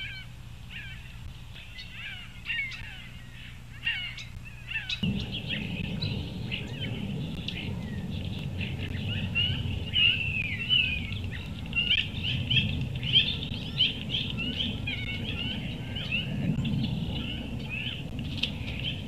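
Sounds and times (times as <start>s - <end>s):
low steady rumble: 0.0s - 19.0s
small birds chirping: 0.0s - 19.0s.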